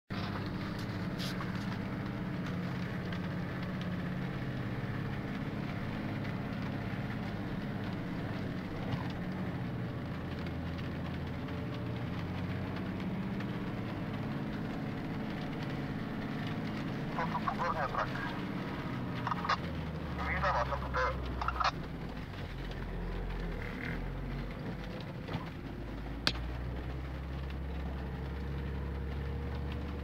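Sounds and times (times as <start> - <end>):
engine running at low speed: 0.1 - 30.0
raindrops ticking on windscreen: 0.1 - 30.0.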